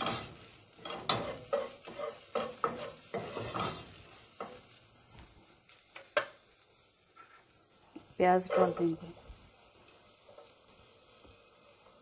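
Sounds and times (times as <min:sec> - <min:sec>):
garlic sizzling in butter: 0:00.0 - 0:12.0.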